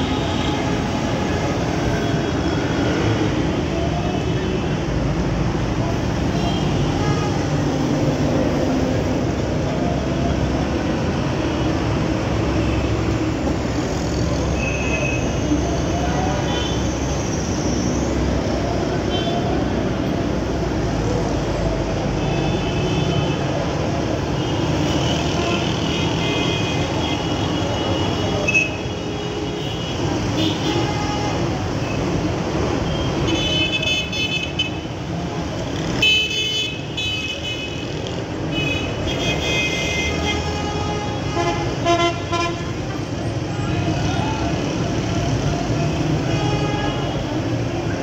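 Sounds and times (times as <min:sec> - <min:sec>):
heavy road traffic: 0:00.0 - 0:48.0.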